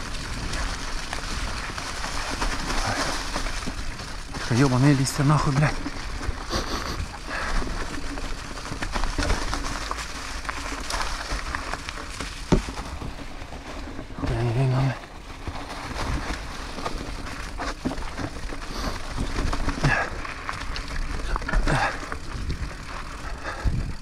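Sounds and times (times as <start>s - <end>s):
bike rattling: 0.0s - 24.0s
bike tyres rolling over dry leaves: 0.0s - 24.0s.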